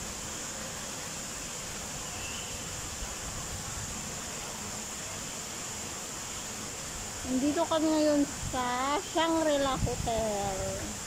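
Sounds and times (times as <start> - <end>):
constant high-pitched hiss: 0.0 - 11.0
small waterfalls splashing into pond: 0.0 - 11.0.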